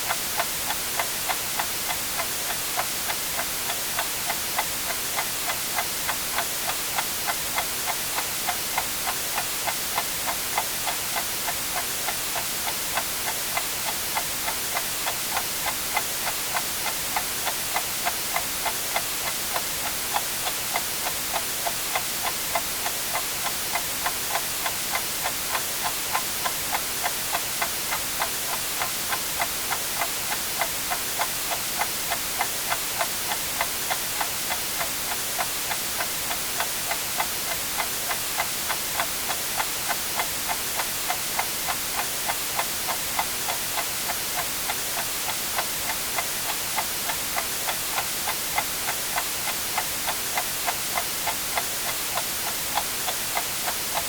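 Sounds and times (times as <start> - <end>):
white noise hiss: 0.0 - 54.0
clock ticking: 0.1 - 54.0.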